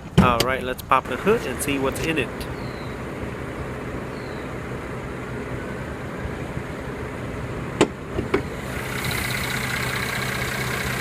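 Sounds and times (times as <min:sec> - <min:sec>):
car engine idling: 0:00.2 - 0:11.0.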